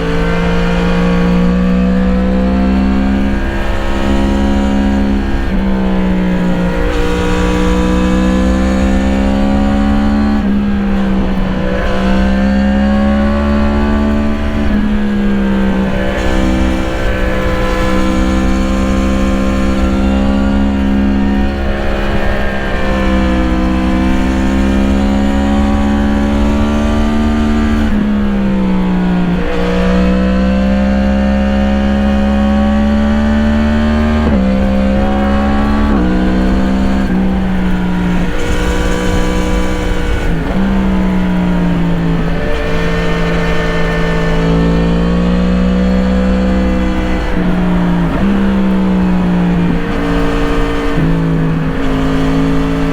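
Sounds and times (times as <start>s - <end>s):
motorcycle engine revving: 0.0s - 52.9s
wind and road noise: 0.0s - 52.9s.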